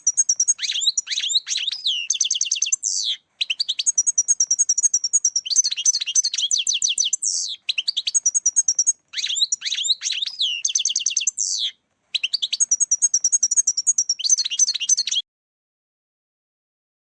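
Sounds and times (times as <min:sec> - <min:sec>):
goldfinch twittering song: 0:00.0 - 0:15.2.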